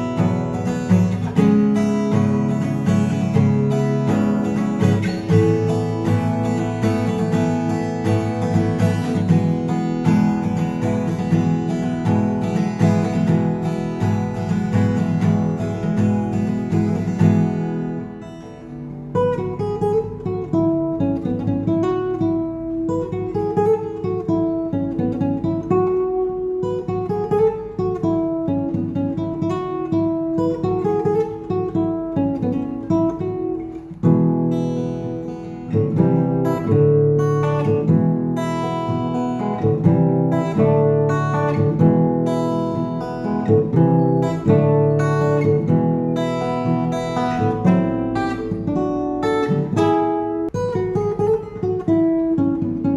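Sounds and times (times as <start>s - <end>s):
acoustic guitar picked and strummed: 0.0s - 52.9s.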